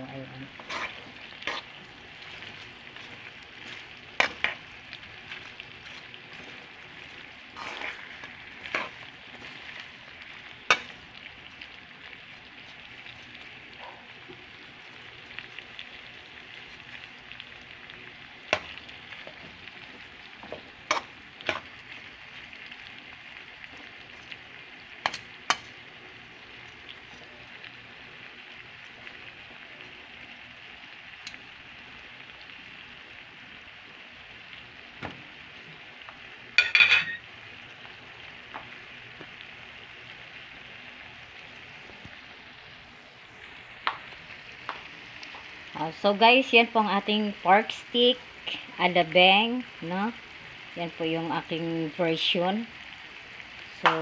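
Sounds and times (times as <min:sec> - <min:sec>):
meat sizzling in a frying pan: 0:00.0 - 0:54.0.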